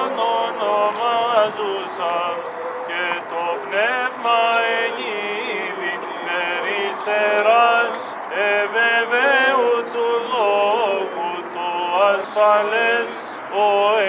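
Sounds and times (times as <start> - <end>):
voices chanting a hymn: 0.0 - 14.0.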